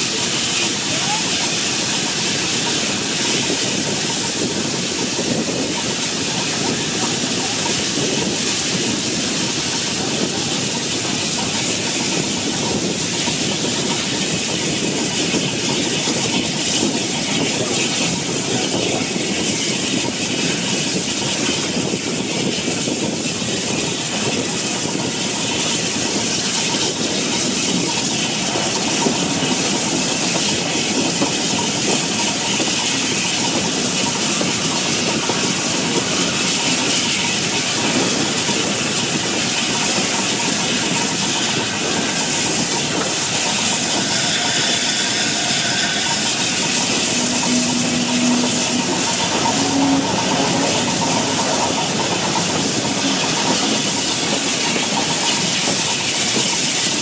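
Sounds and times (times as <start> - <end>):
steam hiss: 0.0 - 57.0
train wheels on rails: 0.0 - 57.0
wind: 0.0 - 57.0.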